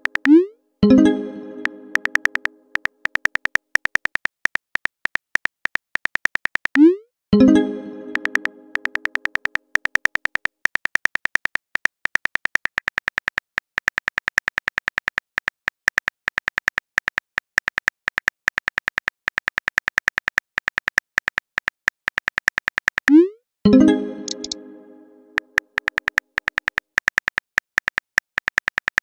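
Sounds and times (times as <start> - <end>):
phone keyboard clicks: 0.0 - 0.4, 1.6 - 6.9, 8.1 - 23.2, 24.2 - 24.6, 25.4 - 29.0.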